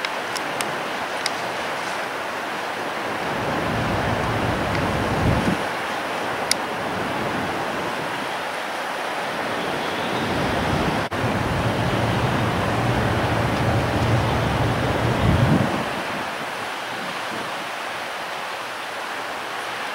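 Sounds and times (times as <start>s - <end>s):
wind buffeting microphone: 0.0s - 8.4s, 9.4s - 17.8s.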